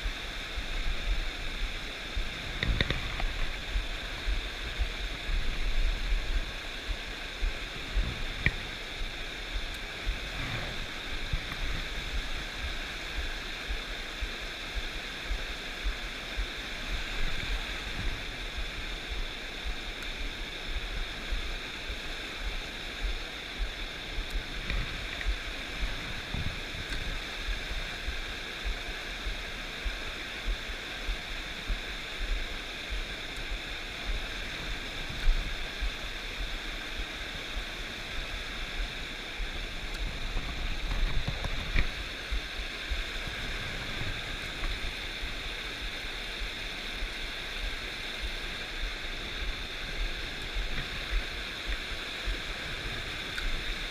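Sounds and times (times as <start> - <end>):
stream water rushing: 0.0 - 53.9.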